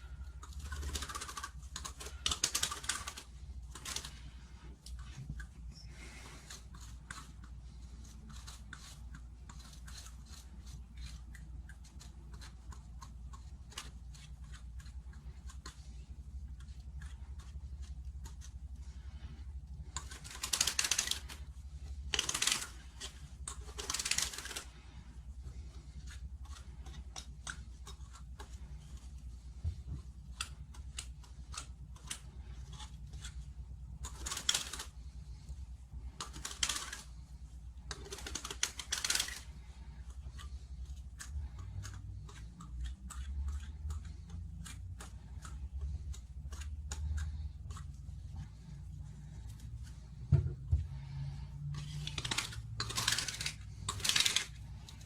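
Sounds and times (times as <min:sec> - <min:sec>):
knife scraping plastic pipe: 0:00.0 - 0:55.0.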